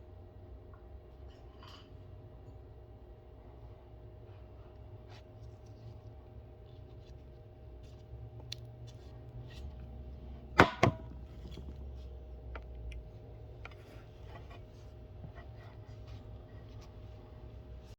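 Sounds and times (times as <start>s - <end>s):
faint low hum: 0.0s - 17.9s.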